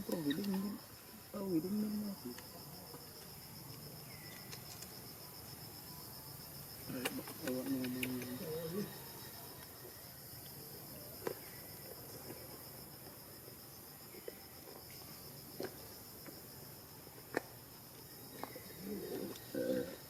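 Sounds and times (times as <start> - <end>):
insect chirring: 0.0 - 20.0.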